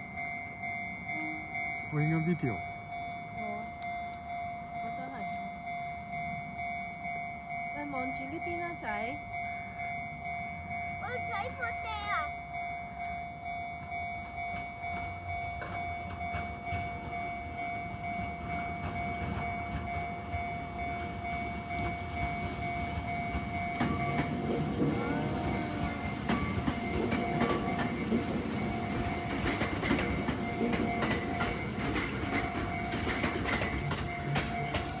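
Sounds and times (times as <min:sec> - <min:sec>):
train wheels clicking on rails: 0:00.0 - 0:12.2, 0:12.8 - 0:35.0.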